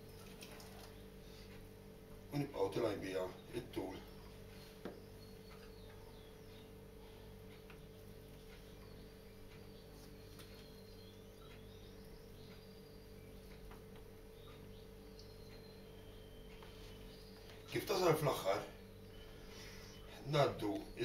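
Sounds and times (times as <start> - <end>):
steady electrical hum: 0.0 - 21.0
faint high chirps: 3.3 - 21.0.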